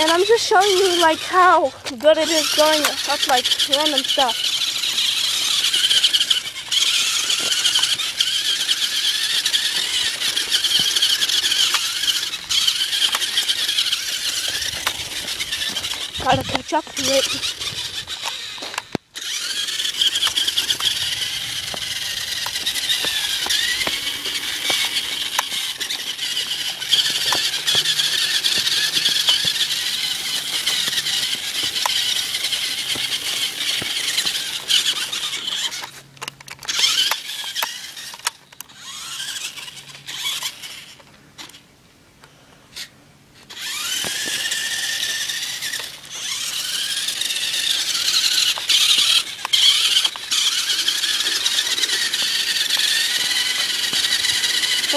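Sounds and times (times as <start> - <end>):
toy truck electric motor whining: 0.0 - 41.6, 42.2 - 54.9.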